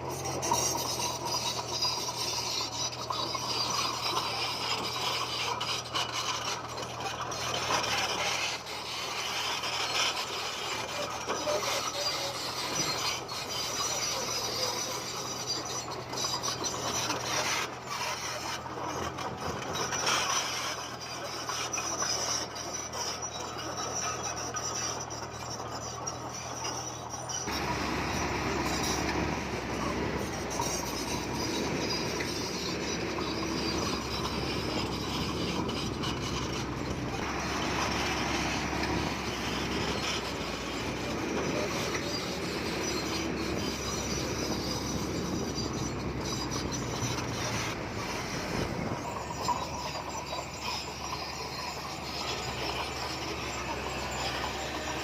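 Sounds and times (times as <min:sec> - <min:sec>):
bulldozer engine drone: 0:00.0 - 0:55.0
rock grinding and scraping: 0:00.0 - 0:55.0.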